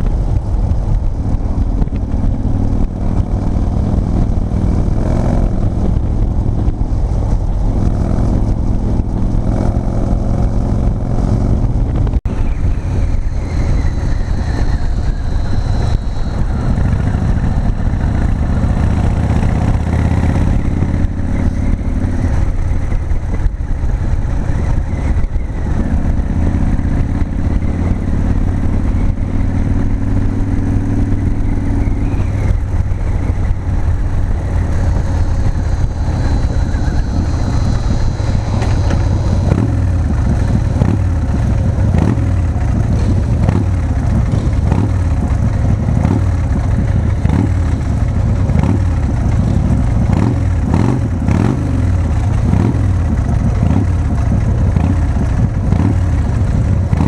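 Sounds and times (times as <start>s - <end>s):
motorcycle engine cruising: 0.0s - 57.0s
wind and road rush: 0.0s - 57.0s.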